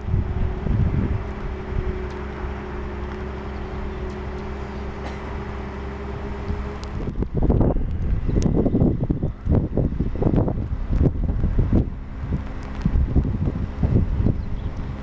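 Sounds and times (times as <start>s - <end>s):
winch engine running: 0.0s - 15.0s
wind rumbling on microphone: 0.0s - 15.0s.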